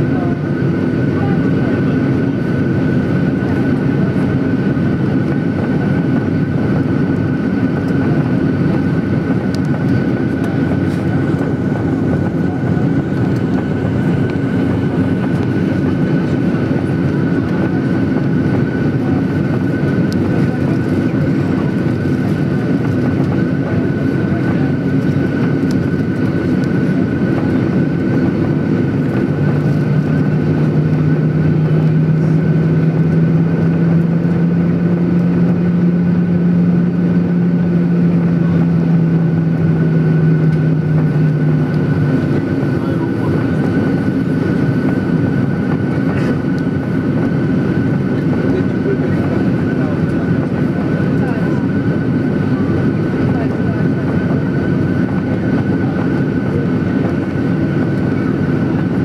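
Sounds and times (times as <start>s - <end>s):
jet engines humming and whining: 0.0s - 59.0s.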